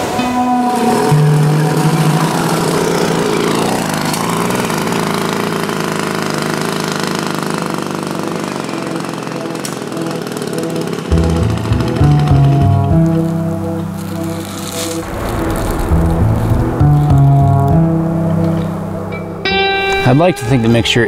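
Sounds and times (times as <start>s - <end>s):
small two-stroke engine running: 0.0s - 21.0s.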